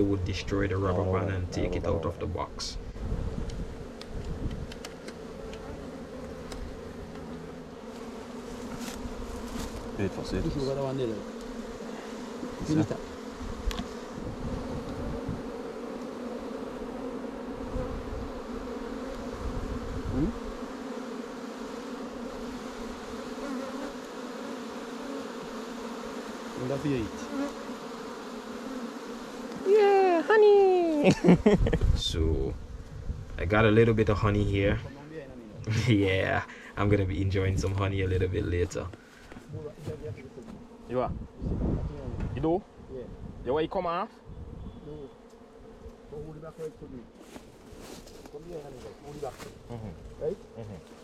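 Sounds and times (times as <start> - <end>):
honey bees buzzing: 0.0 - 51.0.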